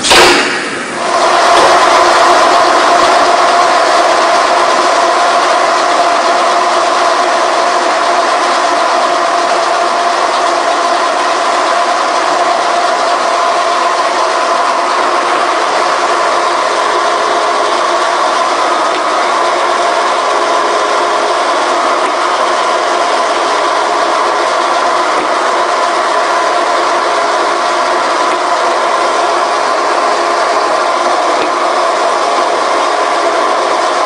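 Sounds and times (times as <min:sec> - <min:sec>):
punching machine running: 0:00.0 - 0:34.0.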